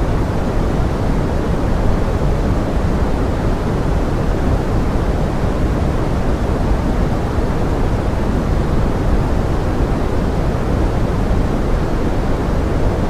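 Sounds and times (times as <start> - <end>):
pink noise with rain hiss: 0.0 - 13.0.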